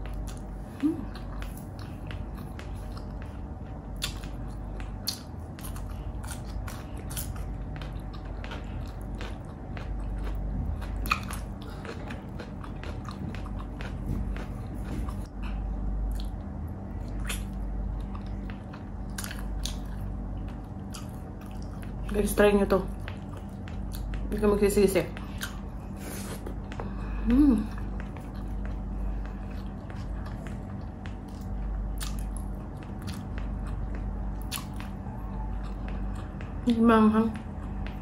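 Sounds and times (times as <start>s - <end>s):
crunchy chewing: 0.0s - 24.4s, 25.1s - 38.0s.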